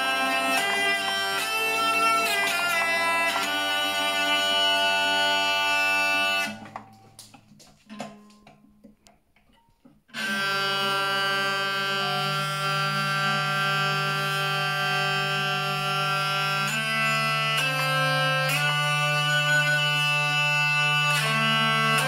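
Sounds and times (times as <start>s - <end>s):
hurdy-gurdy drones: 0.0s - 7.3s, 10.1s - 22.0s.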